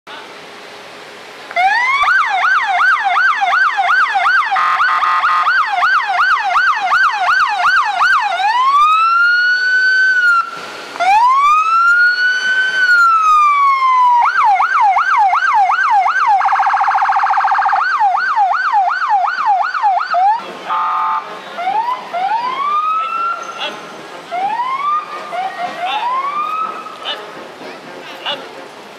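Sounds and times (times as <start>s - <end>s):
police siren yelping and wailing: 1.6s - 27.2s.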